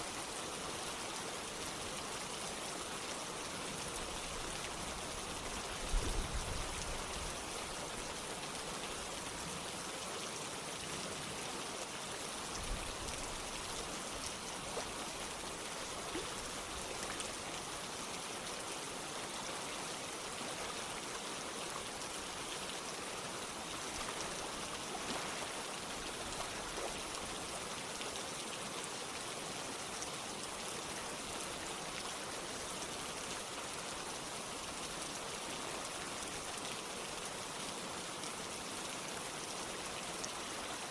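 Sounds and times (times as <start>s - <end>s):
running water: 0.0s - 40.9s
steady rain: 0.0s - 40.9s.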